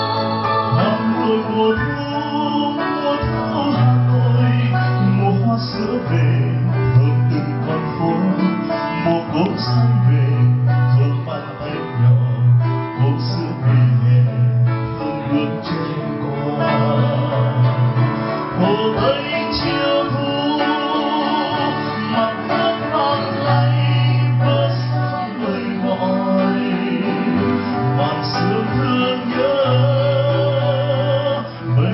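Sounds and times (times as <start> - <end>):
acoustic guitar ballad: 0.0 - 31.9
person singing: 0.0 - 31.9.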